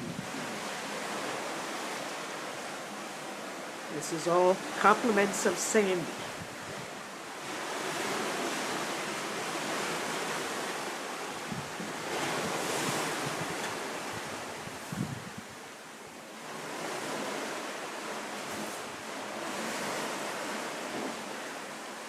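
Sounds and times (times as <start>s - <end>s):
surf: 0.0s - 22.0s
wind: 0.0s - 22.0s.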